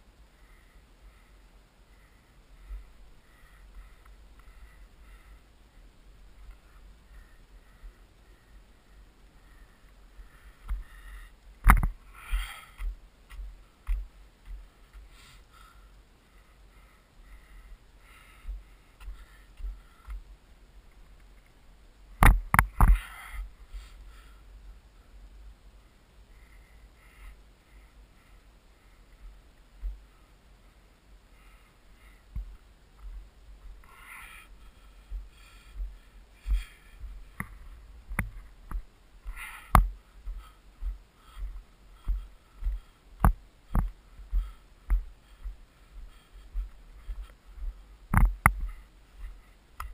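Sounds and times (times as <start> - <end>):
person breathing: 0.0 - 20.5, 22.6 - 49.9.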